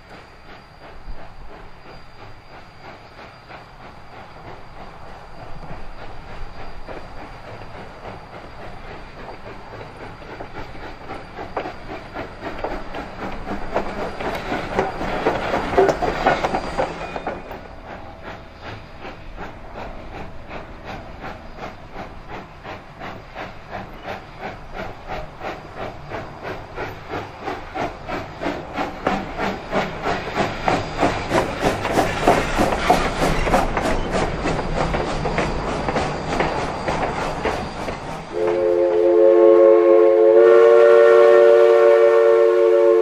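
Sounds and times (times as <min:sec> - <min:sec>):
steam hiss: 0:00.0 - 0:43.0
steam locomotive chuffing: 0:00.0 - 0:43.0.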